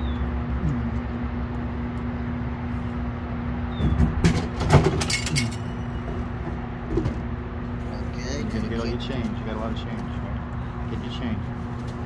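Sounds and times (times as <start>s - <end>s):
vending machine drone: 0.0s - 12.0s.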